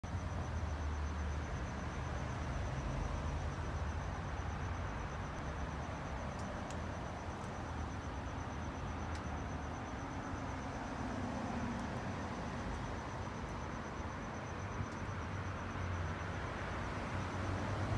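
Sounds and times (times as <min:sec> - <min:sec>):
cricket trilling: 0:00.1 - 0:17.9.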